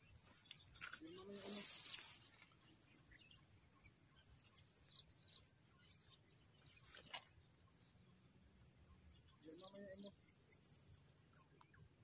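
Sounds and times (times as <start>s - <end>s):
faint bird chirps: 0.0s - 12.0s
insect chorus drone: 0.0s - 12.0s.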